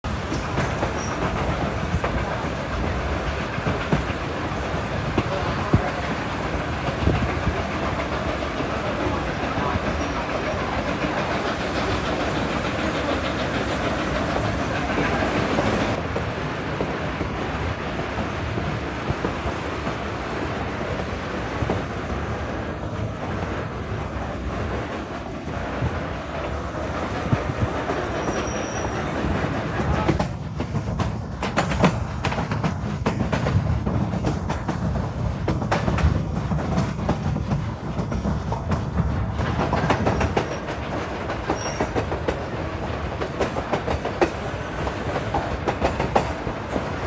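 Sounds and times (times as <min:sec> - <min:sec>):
train wheels rumbling and clattering: 0:00.0 - 0:47.0.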